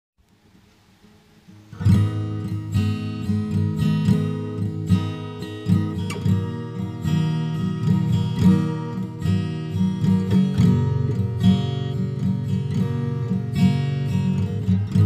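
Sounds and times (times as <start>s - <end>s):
acoustic guitar strumming chords: 0.4s - 15.0s.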